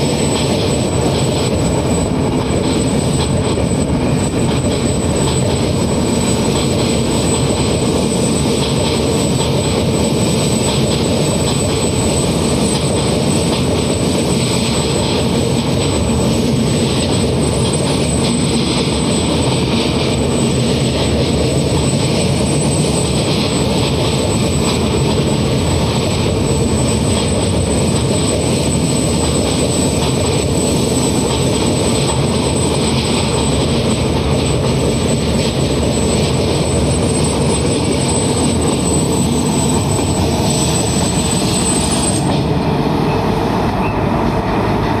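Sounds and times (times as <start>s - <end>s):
thin high whine: 0.0s - 45.0s
train rumbling over bridge: 0.0s - 45.0s.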